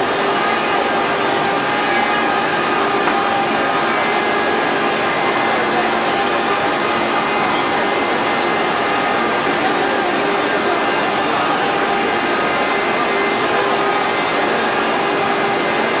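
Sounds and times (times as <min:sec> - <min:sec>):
router spindle whine: 0:00.0 - 0:16.0
router cutting wood: 0:00.2 - 0:15.8.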